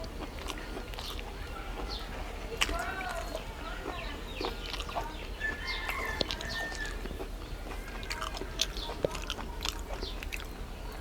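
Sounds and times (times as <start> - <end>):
birds chirping: 0.0 - 11.0
chewing and mouth sounds: 0.0 - 11.0.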